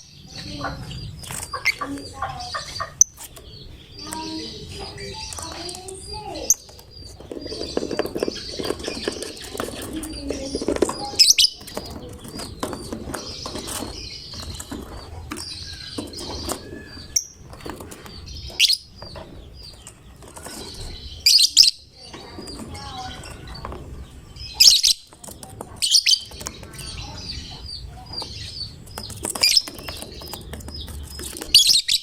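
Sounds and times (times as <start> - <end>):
bird chirping rapidly: 0.0 - 32.0
wings rustling and fluttering: 0.8 - 32.0.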